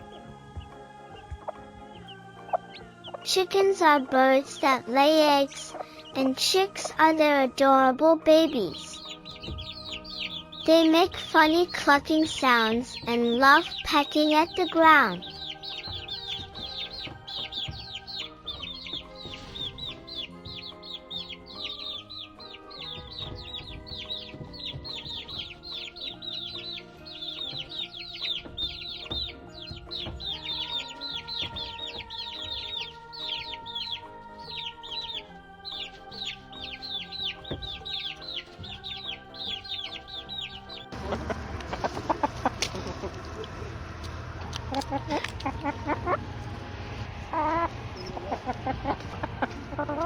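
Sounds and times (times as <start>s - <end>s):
chicks peeping: 0.0s - 50.0s
farmyard noise: 0.0s - 50.0s
soft background music: 0.0s - 50.0s.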